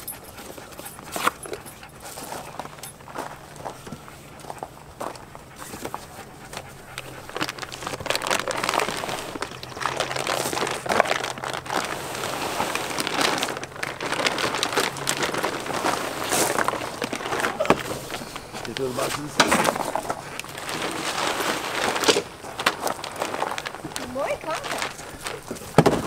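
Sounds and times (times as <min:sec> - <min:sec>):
plastic wrapping and cardboard crinkling: 0:00.0 - 0:26.0.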